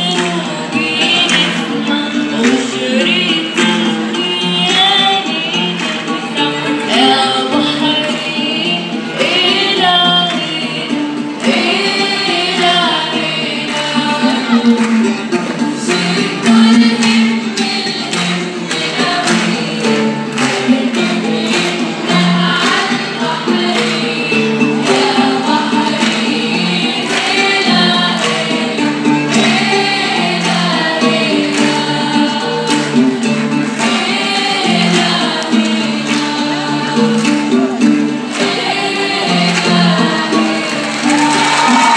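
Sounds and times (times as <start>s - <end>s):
women singing together: 0.0s - 41.9s.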